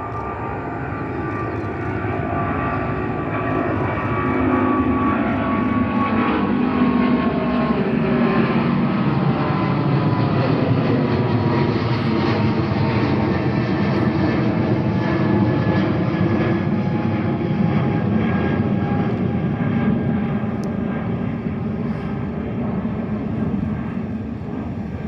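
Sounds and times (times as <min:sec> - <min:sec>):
jet engines at takeoff thrust: 0:00.0 - 0:25.0.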